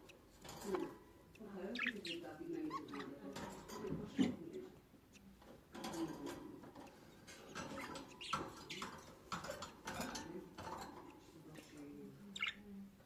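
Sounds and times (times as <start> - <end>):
budgerigars chirping: 0.0 - 11.2, 12.3 - 12.7.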